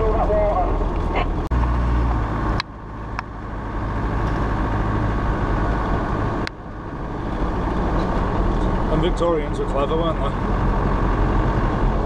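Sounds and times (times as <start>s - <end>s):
diesel engine running: 0.0s - 12.0s
road and wind noise: 0.0s - 12.0s.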